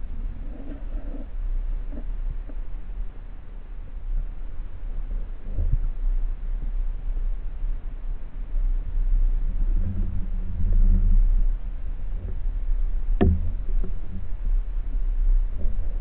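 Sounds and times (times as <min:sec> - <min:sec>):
muffled underwater rumble: 0:00.0 - 0:16.0
short low hum: 0:00.0 - 0:16.0.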